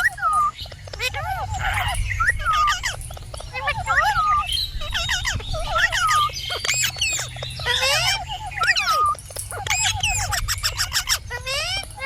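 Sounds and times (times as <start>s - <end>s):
parrot whistling and squawking: 0.0s - 12.0s.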